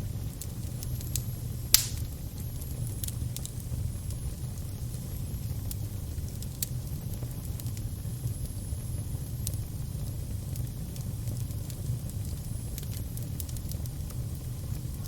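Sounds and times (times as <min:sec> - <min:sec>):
fire crackling: 0:00.0 - 0:15.0
fire popping: 0:00.0 - 0:15.0.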